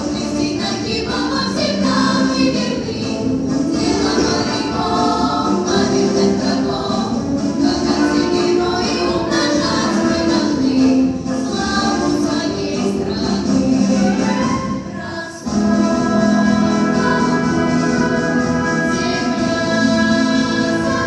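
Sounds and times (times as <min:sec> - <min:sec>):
instrumental accompaniment: 0:00.0 - 0:21.0
youth choir singing a march: 0:00.0 - 0:21.0.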